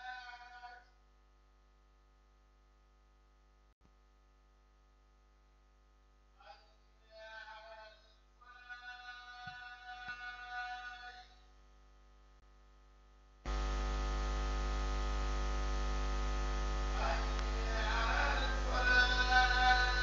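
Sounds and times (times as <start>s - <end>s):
electrical mains hum with buzz: 0.0s - 7.2s, 8.0s - 20.0s.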